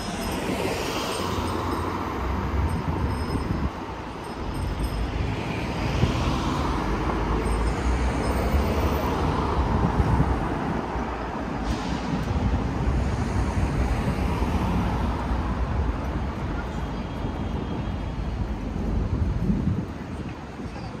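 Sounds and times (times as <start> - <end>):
cars passing: 0.0 - 21.0.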